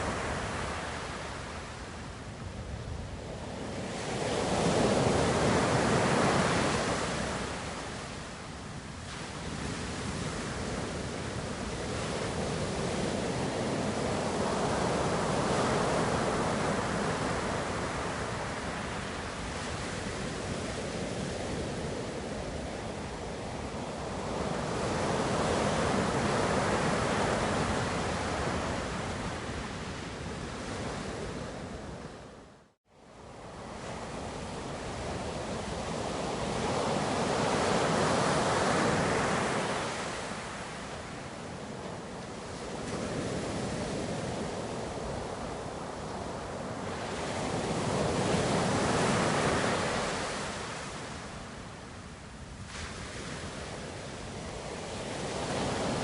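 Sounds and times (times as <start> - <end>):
ocean waves surf: 0.0 - 32.4, 33.1 - 56.0.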